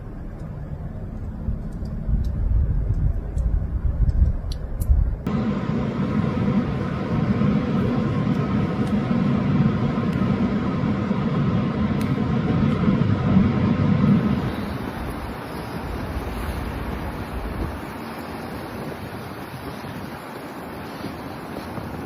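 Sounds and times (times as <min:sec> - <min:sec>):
vehicle running noise: 0:00.0 - 0:21.7.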